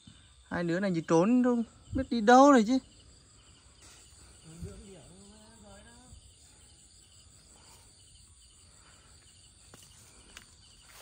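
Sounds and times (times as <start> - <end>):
crickets chirping: 0.0 - 11.0
high insect drone: 0.0 - 11.0.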